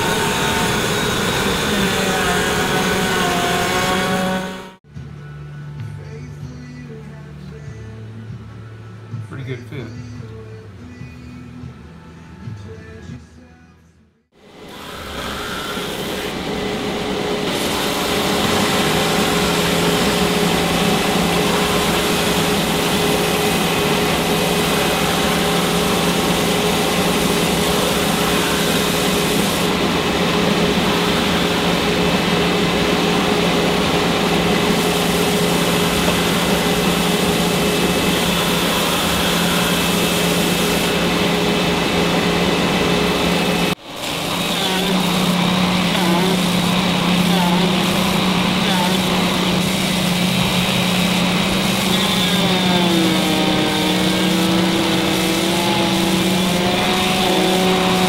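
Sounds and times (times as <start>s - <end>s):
electric sanders running: 0.0s - 4.8s, 14.4s - 58.0s.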